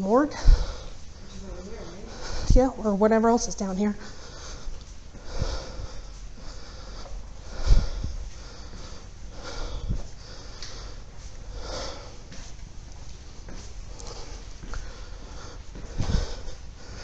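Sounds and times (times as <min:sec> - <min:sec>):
person breathing: 0:00.0 - 0:03.0, 0:03.9 - 0:17.0.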